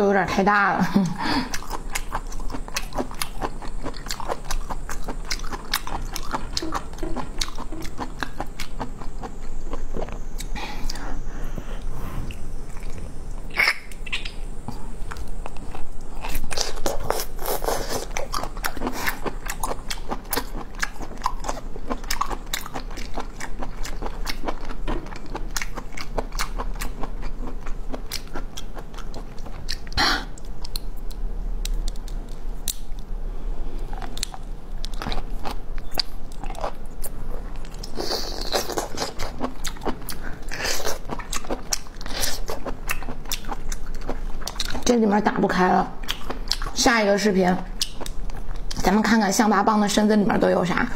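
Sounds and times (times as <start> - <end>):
crunchy wet chewing: 1.0 - 33.1, 33.7 - 49.2.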